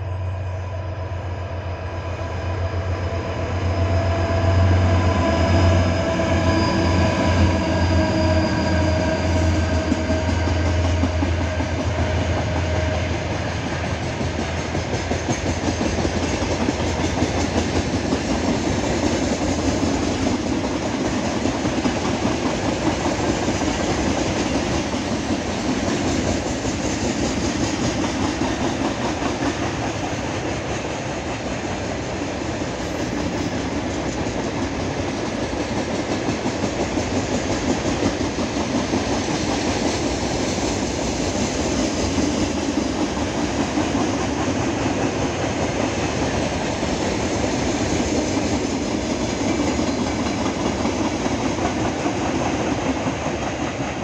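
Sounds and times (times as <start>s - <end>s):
locomotive engines humming: 0.0s - 54.0s.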